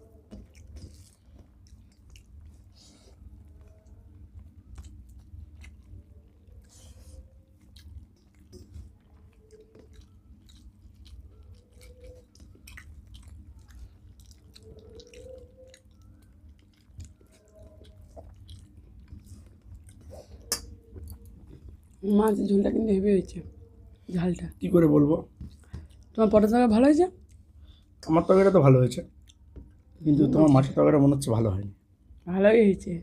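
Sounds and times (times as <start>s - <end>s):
people chewing and eating: 0.0s - 32.3s.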